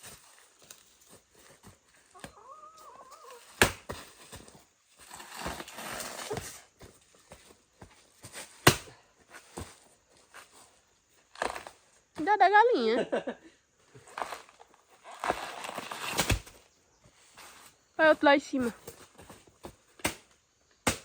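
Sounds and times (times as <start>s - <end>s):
rustling: 0.0s - 12.0s, 13.9s - 20.0s.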